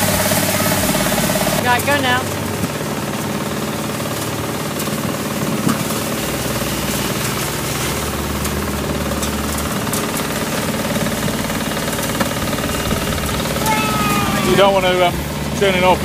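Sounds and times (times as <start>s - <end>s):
threshing machine running: 0.0s - 16.0s
tractor engine running: 0.0s - 16.0s.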